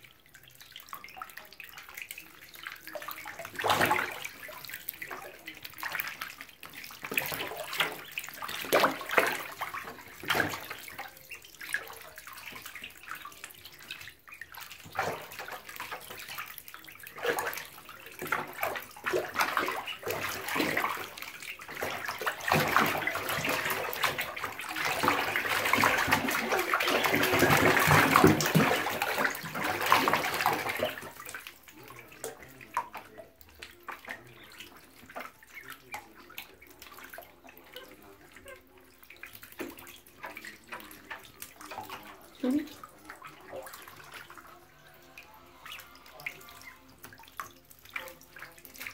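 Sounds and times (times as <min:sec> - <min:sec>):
ducklings splashing in bath water: 0:00.0 - 0:48.9.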